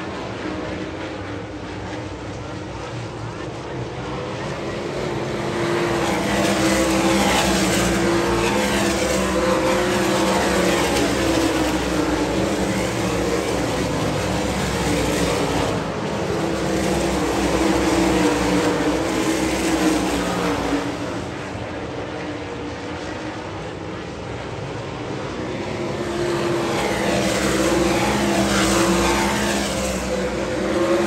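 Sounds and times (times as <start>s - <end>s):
race car engines passing: 0.0s - 31.0s.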